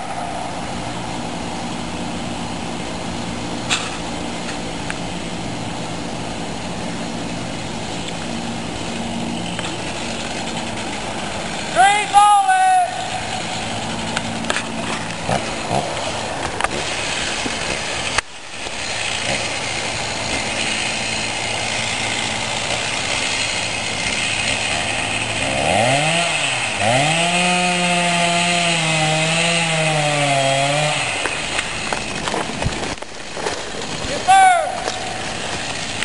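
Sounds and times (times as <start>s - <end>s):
chainsaw revving and cutting: 7.1s - 36.0s.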